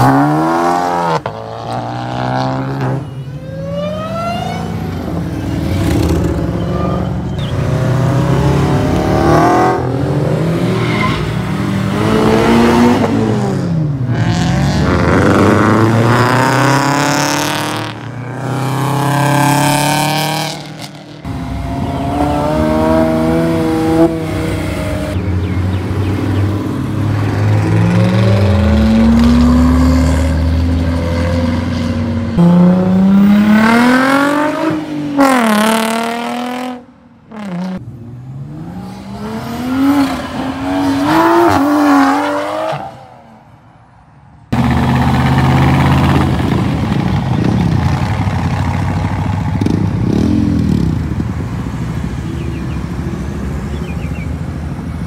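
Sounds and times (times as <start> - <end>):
sports car engines revving: 0.0 - 43.4, 44.5 - 55.0.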